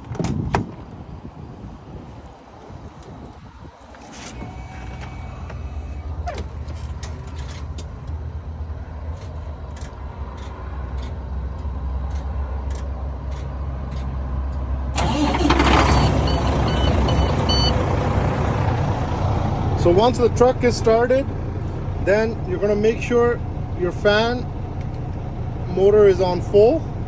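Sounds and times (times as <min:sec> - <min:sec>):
truck engine idling: 0:01.9 - 0:27.0.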